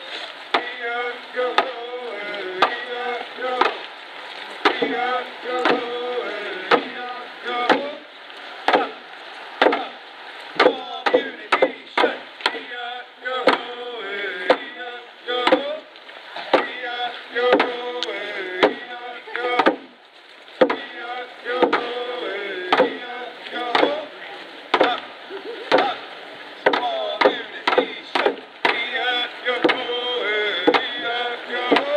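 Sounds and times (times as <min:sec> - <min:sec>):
voices singing: 0:00.0 - 0:19.9, 0:20.6 - 0:31.9.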